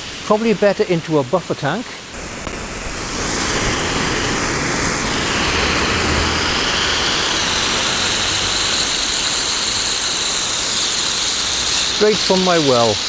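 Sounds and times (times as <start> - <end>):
hose water jet hissing: 0.0 - 13.0.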